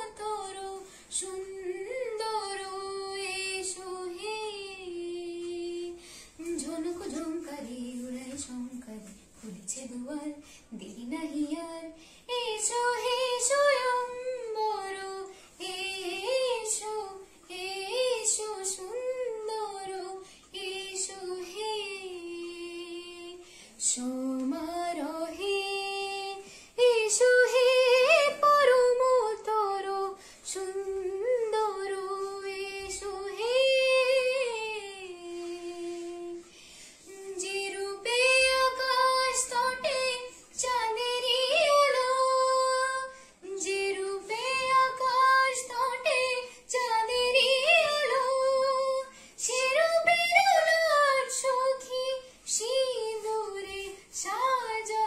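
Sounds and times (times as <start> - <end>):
woman singing unaccompanied: 0.0 - 55.0.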